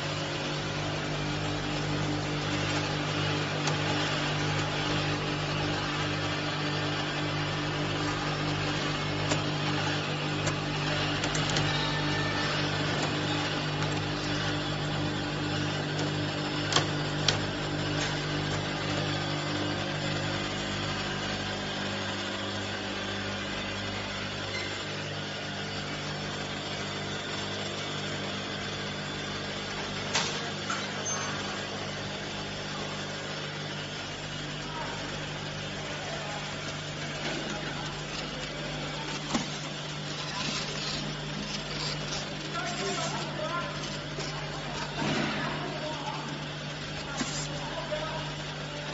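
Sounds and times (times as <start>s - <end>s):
motors and conveyors humming: 0.0s - 48.9s.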